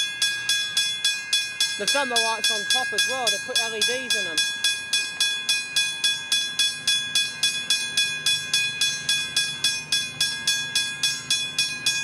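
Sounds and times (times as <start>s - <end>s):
level crossing bell ringing: 0.0s - 12.0s.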